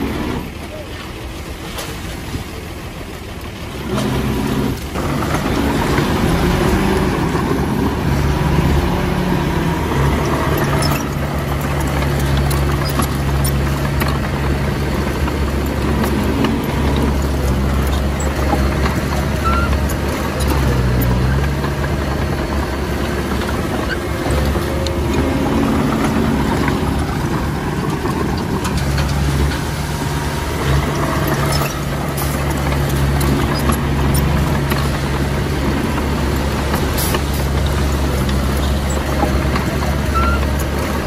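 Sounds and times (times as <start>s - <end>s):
diesel earthmoving engine running: 0.0s - 41.0s.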